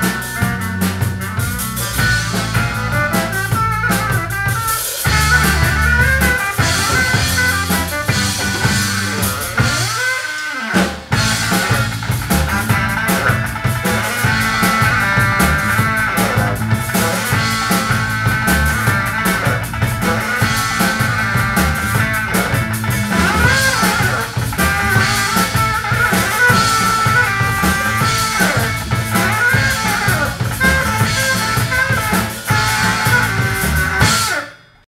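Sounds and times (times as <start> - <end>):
saxophone melody: 0.0 - 34.6
drum kit beat: 0.0 - 34.8
electric guitar: 0.0 - 34.8.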